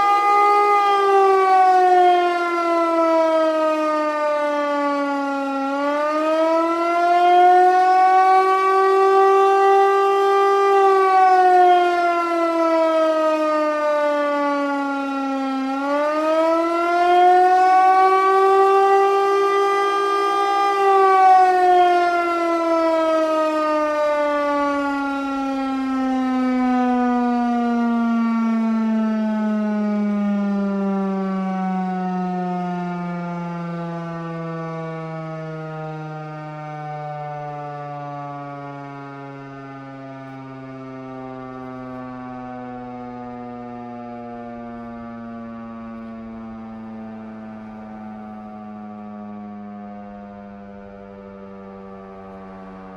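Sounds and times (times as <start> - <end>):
warning siren wailing: 0.0 - 52.9.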